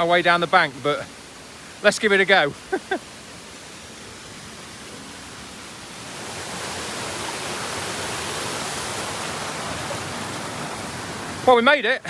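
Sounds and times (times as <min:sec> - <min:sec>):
stream and waterfall rushing: 0:00.0 - 0:12.0.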